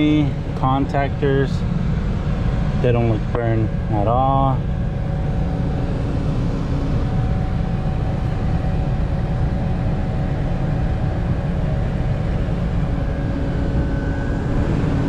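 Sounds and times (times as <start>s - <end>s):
air conditioning drone: 0.0s - 15.0s.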